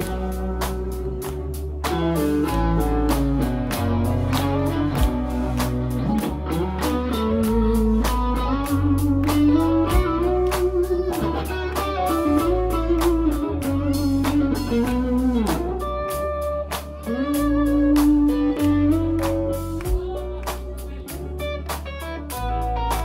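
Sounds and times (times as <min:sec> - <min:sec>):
bass line: 0:00.0 - 0:23.0
lead electric guitar: 0:00.0 - 0:23.0
steady drum beat: 0:00.0 - 0:23.0.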